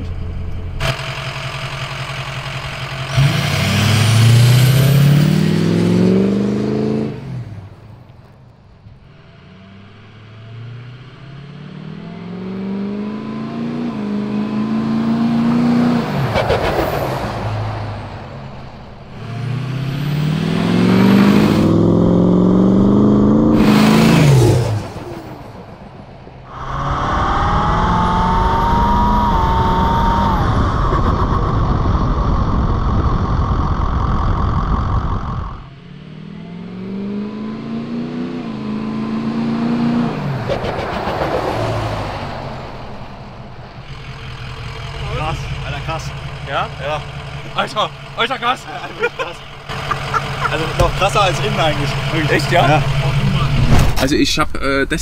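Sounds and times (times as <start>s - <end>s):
diesel engine accelerating: 0.0s - 55.0s.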